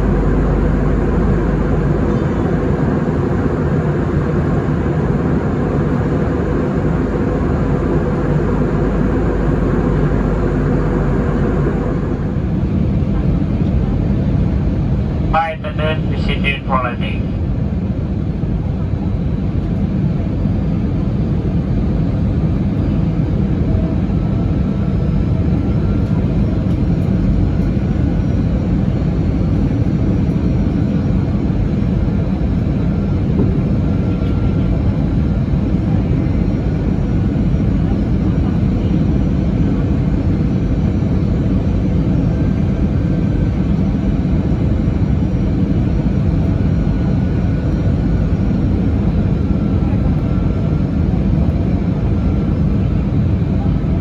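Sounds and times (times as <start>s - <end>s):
aircraft landing rumble: 0.0s - 54.0s.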